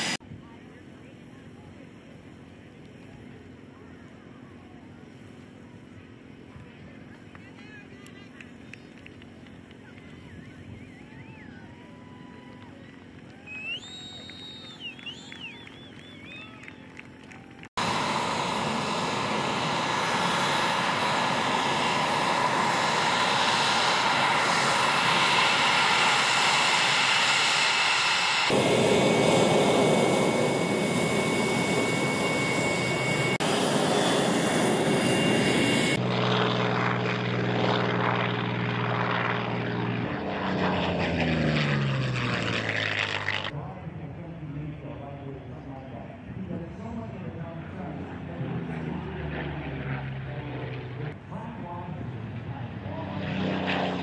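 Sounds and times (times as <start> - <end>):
high jet engine whine: 0.0 - 54.0
jet aircraft roar: 0.0 - 54.0
propeller plane droning overhead: 0.0 - 54.0.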